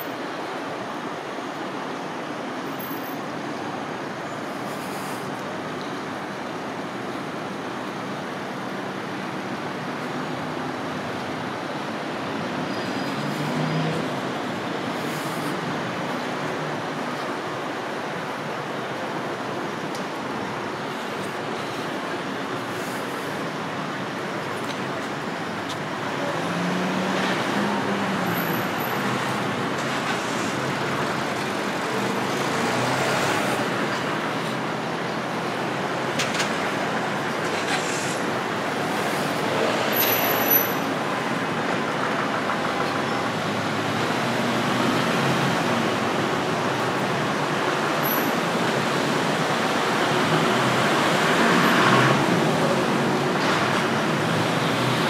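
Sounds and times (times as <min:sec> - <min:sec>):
cars passing on road: 0:00.0 - 0:55.0.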